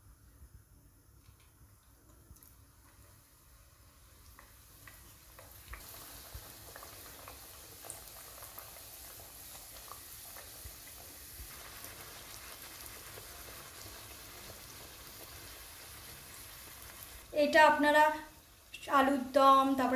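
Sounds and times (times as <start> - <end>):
flatbread deep-frying in oil: 1.1 - 19.9.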